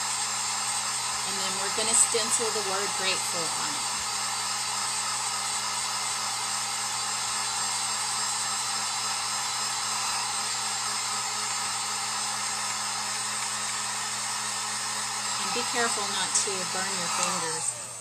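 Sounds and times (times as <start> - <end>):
heat gun blowing hot air: 0.0 - 18.0.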